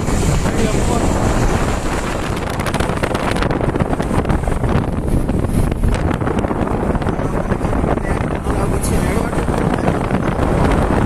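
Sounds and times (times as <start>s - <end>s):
moving vehicle road and engine noise: 0.0s - 11.0s
wind buffeting microphone: 0.0s - 11.0s.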